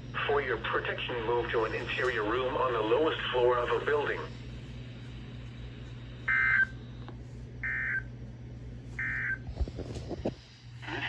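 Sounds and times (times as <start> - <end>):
steady radio hum: 0.0 - 11.0.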